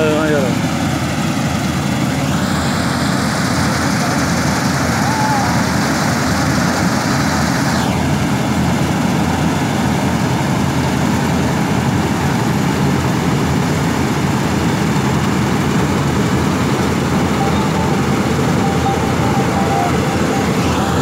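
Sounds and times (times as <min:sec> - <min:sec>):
combine harvester engines droning: 0:00.0 - 0:21.0.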